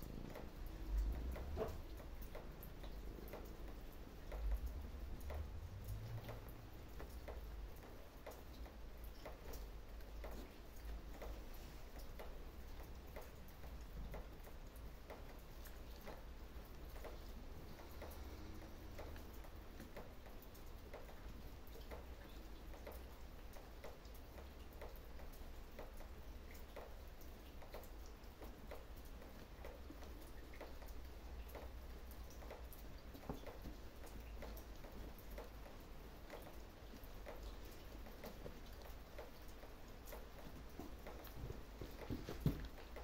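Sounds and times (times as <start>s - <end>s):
small crackles and clicks: 0.0s - 43.0s.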